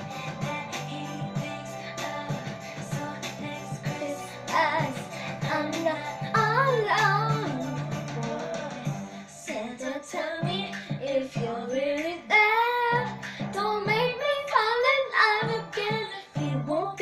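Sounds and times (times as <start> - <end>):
girl singing slow pop song: 0.0 - 17.0.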